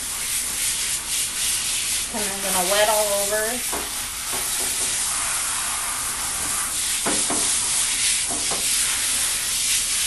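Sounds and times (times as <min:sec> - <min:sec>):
hose spraying water: 0:00.0 - 0:10.0.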